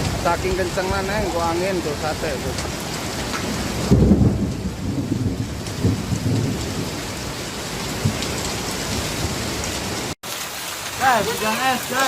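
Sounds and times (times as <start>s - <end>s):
strong wind: 0.0s - 10.1s
rain and hail hissing: 0.0s - 12.0s.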